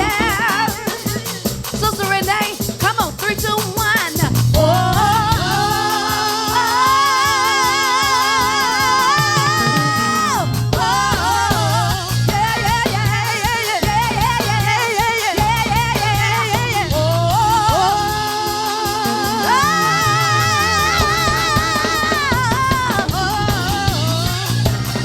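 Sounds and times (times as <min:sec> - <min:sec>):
band with bass and drums: 0:00.0 - 0:25.0
woman singing with vibrato: 0:00.0 - 0:25.0.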